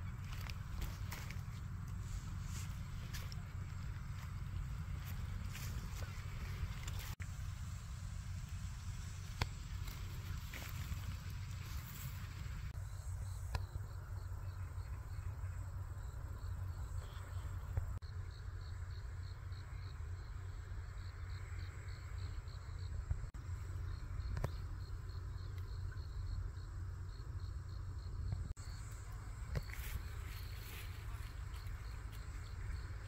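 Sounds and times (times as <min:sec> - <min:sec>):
crickets chirping: 0:00.0 - 0:33.0
low background rumble: 0:00.0 - 0:33.0.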